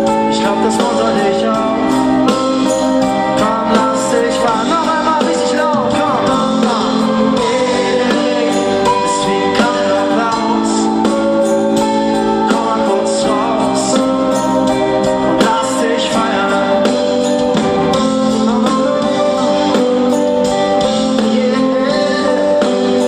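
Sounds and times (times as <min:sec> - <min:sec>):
guitar: 0:00.0 - 0:23.0
steady percussion: 0:00.0 - 0:23.0.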